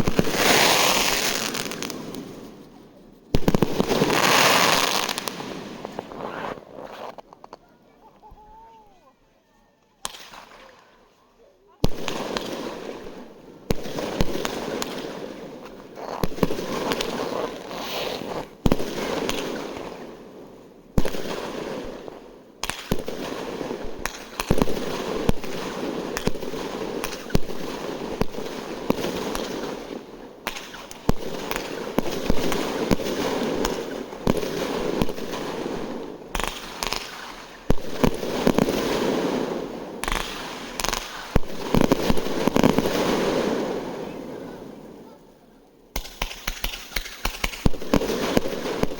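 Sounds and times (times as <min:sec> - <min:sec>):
fireworks bangs: 0:00.0 - 0:08.9, 0:10.0 - 0:11.1, 0:11.8 - 0:20.3, 0:20.9 - 0:45.2, 0:45.9 - 0:48.9
fireworks crackling: 0:00.0 - 0:09.2, 0:09.8 - 0:45.2, 0:45.9 - 0:48.9.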